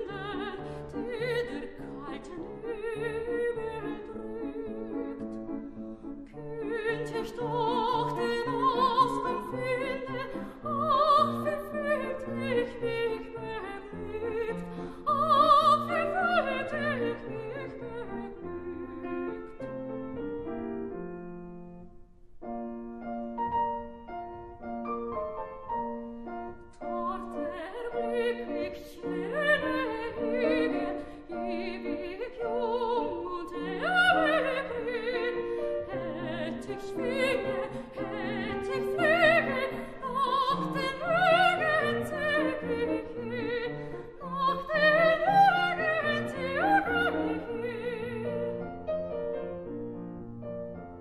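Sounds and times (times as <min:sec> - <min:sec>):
soprano singing with vibrato: 0:00.0 - 0:19.6, 0:25.8 - 0:49.2
grand piano accompaniment: 0:00.0 - 0:51.0.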